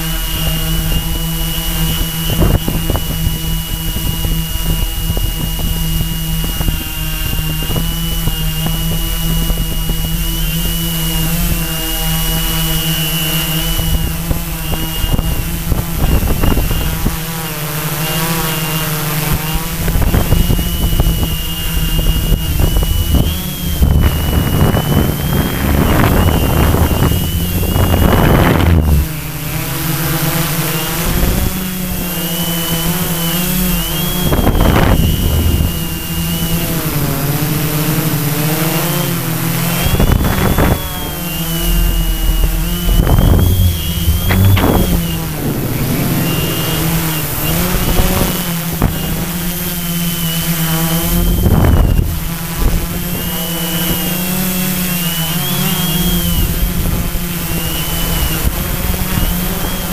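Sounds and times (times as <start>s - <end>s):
drone motors buzzing: 0.0s - 59.9s
wind noise on microphone: 0.0s - 59.9s.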